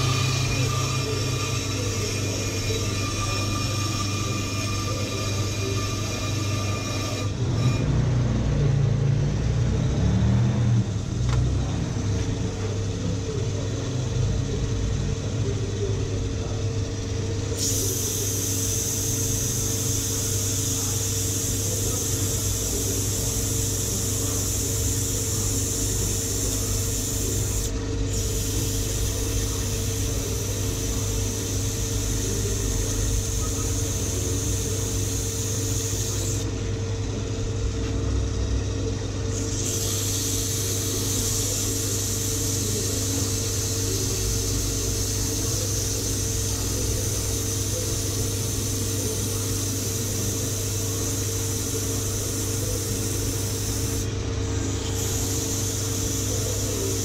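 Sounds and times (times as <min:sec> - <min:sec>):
brake lathe motor hum: 0:00.0 - 0:57.0.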